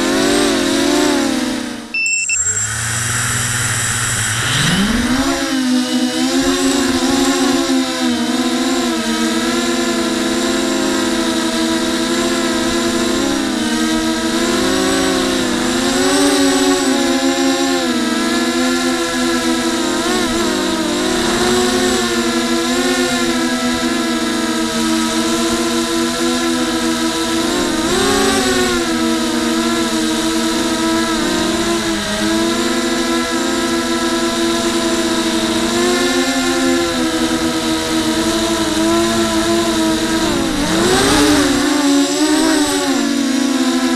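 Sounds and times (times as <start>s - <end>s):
drone motors and propellers buzzing: 0.0s - 43.9s.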